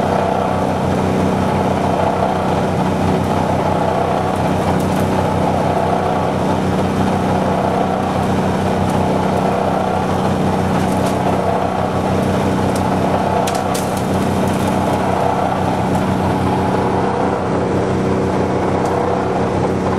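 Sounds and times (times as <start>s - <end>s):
hammer mill pulverizing clay: 0.0s - 19.9s
tractor engine running steadily: 0.0s - 19.9s.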